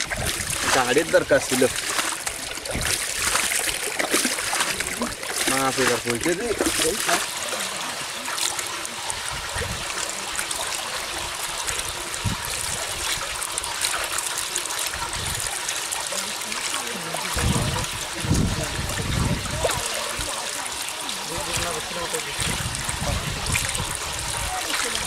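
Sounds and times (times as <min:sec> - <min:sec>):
water pouring and splashing: 0:00.0 - 0:25.0.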